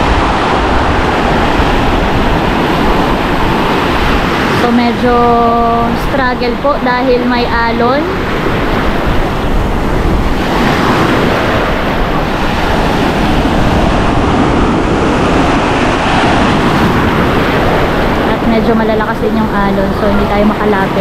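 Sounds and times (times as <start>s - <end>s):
surf breaking on sand: 0.0s - 21.0s
wind buffeting microphone: 0.0s - 21.0s.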